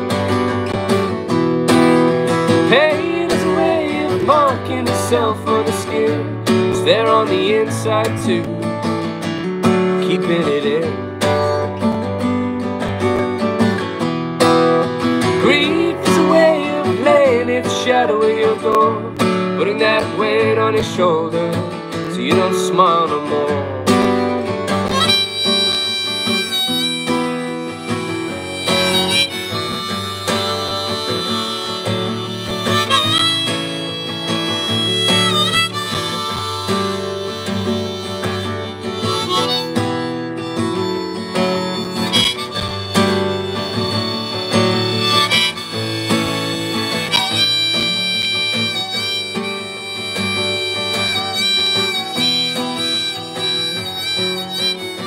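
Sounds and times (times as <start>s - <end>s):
acoustic guitar accompaniment: 0.0s - 55.0s
harmonica melody: 0.0s - 55.0s.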